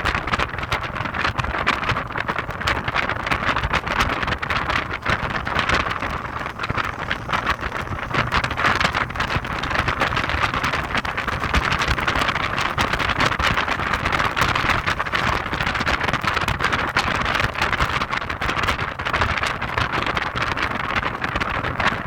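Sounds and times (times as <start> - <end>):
wind buffeting on microphone: 0.0 - 22.0.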